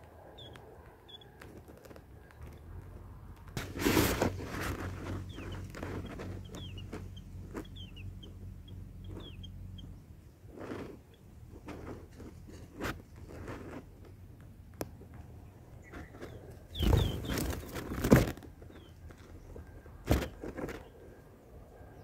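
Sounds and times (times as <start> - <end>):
small birds chirping: 0.0 - 13.2, 14.0 - 22.0.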